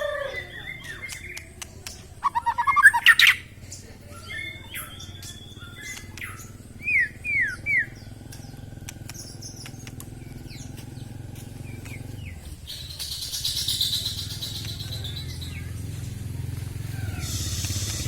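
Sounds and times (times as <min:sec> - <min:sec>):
bird singing: 0:00.0 - 0:18.0.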